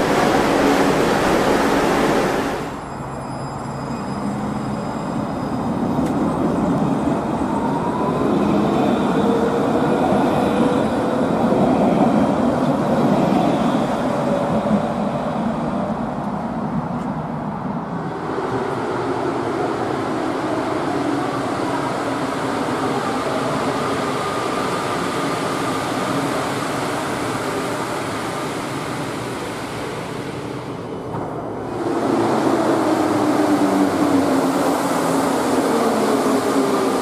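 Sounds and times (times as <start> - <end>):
train rolling rumble: 0.0 - 37.0
tram moving: 0.0 - 37.0.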